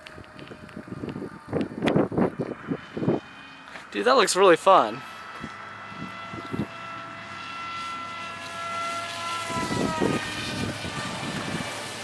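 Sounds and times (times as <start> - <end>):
wind buffeting microphone: 0.0 - 7.8, 8.9 - 12.0
model plane motor whine: 0.0 - 12.0.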